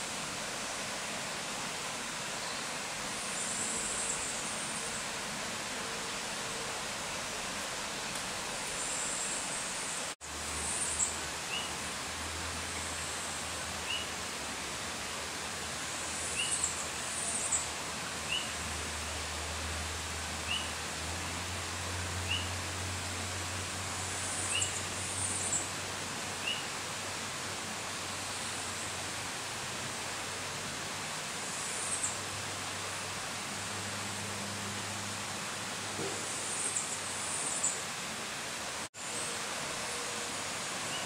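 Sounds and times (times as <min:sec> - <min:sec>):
forest ambience hiss: 0:00.0 - 0:41.0.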